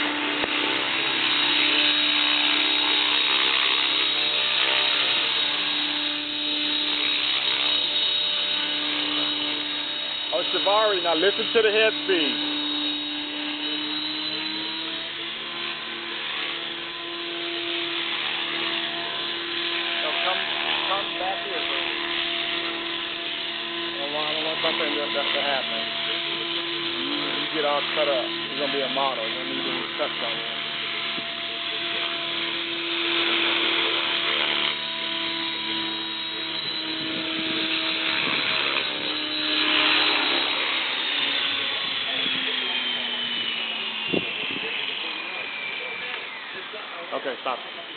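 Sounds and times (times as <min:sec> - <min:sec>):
model helicopter rotor whine: 0:00.0 - 0:47.9.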